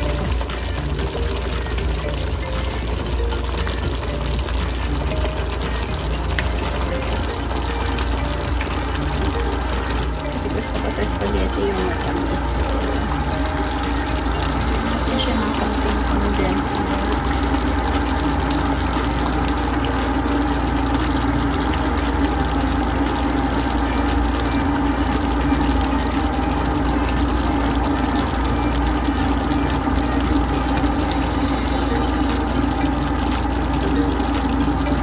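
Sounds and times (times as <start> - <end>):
low hum: 0.0 - 35.0
sauce bubbling in a pan: 0.0 - 35.0.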